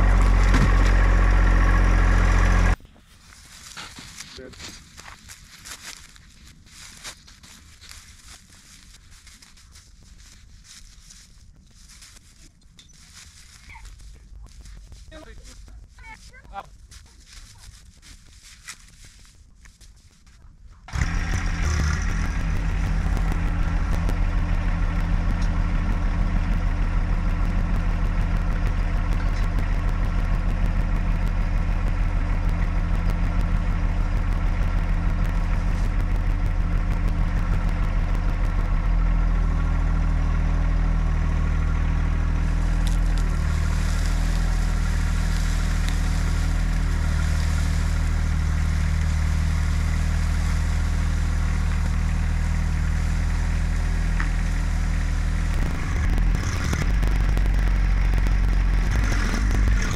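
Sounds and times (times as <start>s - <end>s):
log dragging over ground: 0.0s - 59.9s
tractor engine running: 0.0s - 59.9s.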